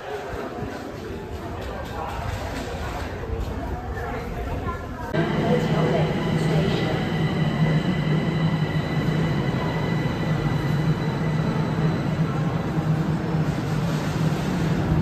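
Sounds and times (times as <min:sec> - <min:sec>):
train wheels rumbling: 0:01.3 - 0:15.0.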